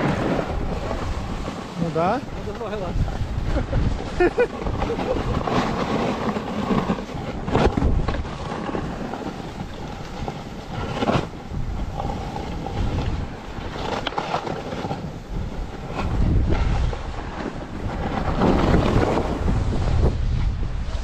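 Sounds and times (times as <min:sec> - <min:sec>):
sliding on snow: 0:00.0 - 0:21.0
wind buffeting microphone: 0:00.0 - 0:21.0.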